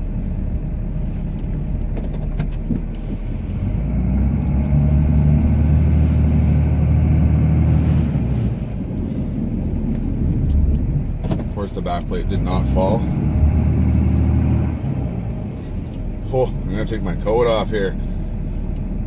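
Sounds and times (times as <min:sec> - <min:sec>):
diesel truck engine: 0:00.0 - 0:19.0.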